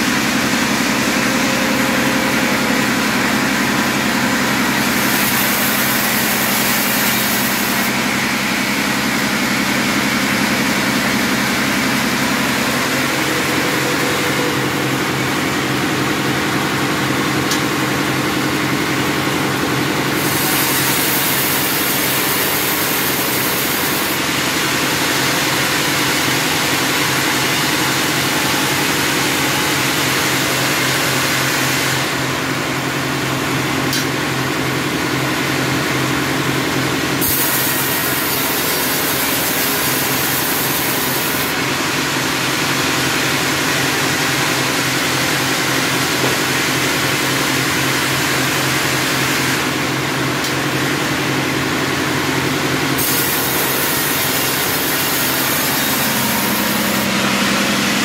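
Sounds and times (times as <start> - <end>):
band saw running: 0.0 - 58.0.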